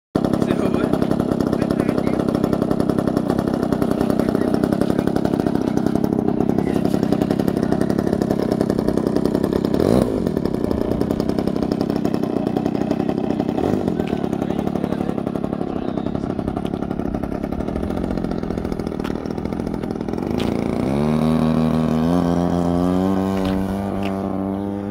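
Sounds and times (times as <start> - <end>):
model airplane engine idling: 0.2 - 24.9.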